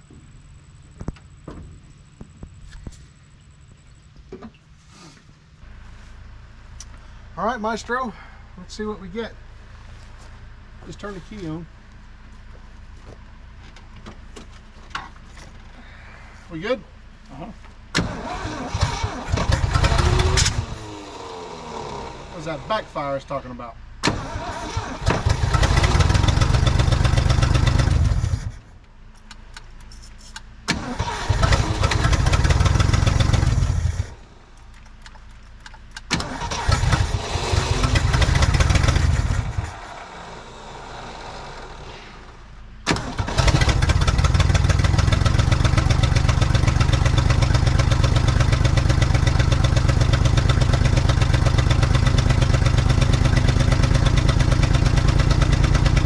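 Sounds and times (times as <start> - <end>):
truck engine starting and running: 0.0 - 56.0.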